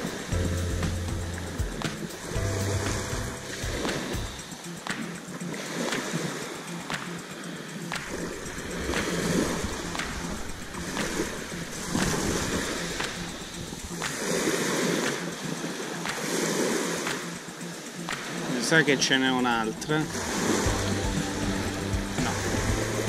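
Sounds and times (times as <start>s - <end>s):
background music with steady beat: 0.0s - 23.0s
small waves washing on beach: 1.7s - 23.0s.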